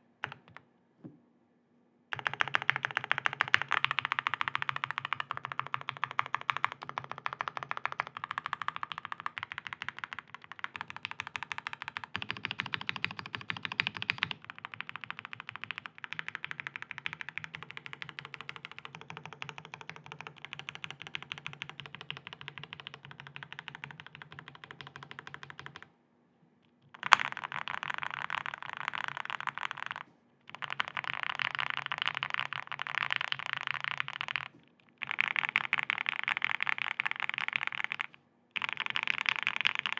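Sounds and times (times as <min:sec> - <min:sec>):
mechanical keyboard typing: 0:00.2 - 0:00.6, 0:02.1 - 0:25.9, 0:27.0 - 0:39.9.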